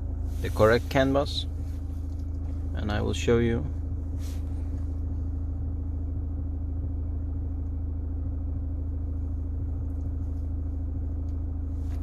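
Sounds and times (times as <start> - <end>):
car cabin hum and rumble: 0.0 - 12.0.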